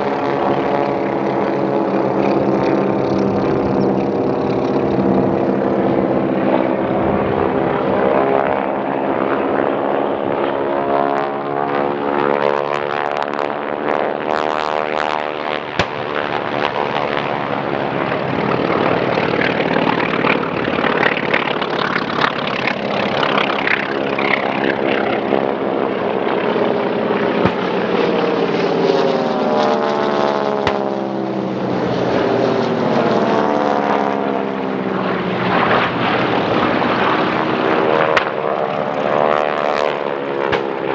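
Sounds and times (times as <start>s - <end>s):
propeller planes flying past: 0.0s - 40.9s.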